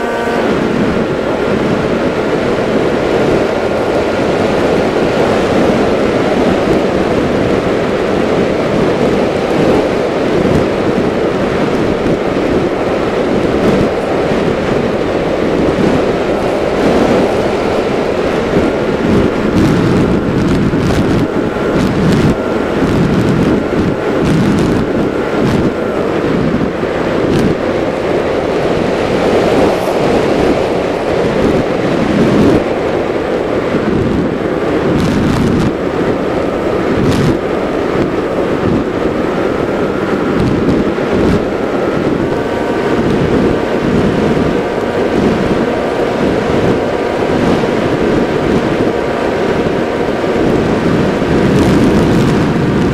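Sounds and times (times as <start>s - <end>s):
motor and propeller whine: 0.0s - 52.9s
wind rushing over microphone: 0.0s - 52.9s.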